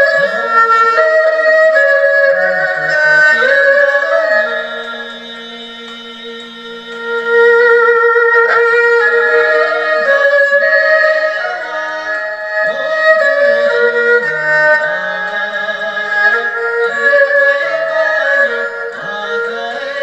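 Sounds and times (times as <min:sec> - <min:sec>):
sliding melody over accompaniment: 0:00.0 - 0:20.0.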